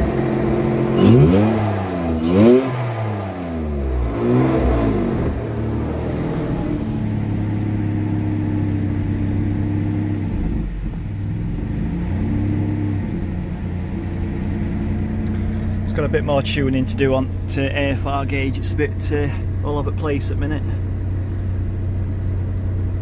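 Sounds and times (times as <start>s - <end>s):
car engine idling and blipping: 0.0s - 23.0s.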